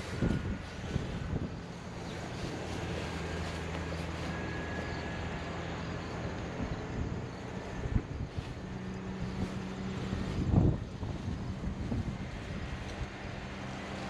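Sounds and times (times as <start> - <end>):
farm machine engine running: 0.0 - 14.0
wind buffeting microphone: 0.0 - 14.0.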